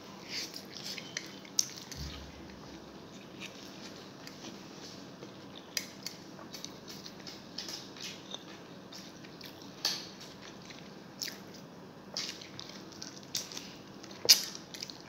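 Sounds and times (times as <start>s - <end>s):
soft wet eating sounds: 0.1s - 15.0s.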